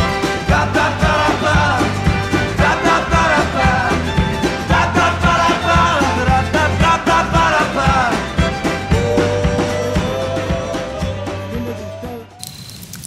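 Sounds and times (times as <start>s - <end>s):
song with drum beat: 0.0s - 12.4s.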